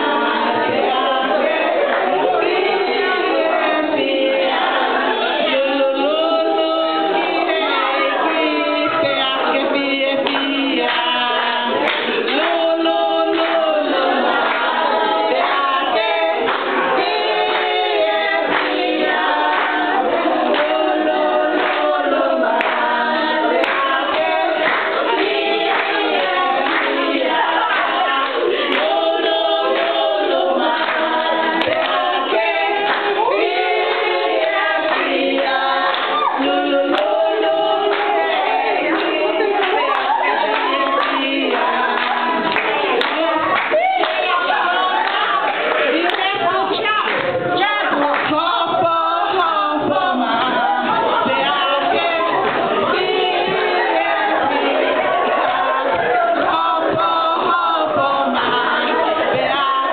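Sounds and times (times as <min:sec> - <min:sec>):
woman singing into microphone: 0:00.0 - 0:59.9
women singing in chorus: 0:00.0 - 0:59.9.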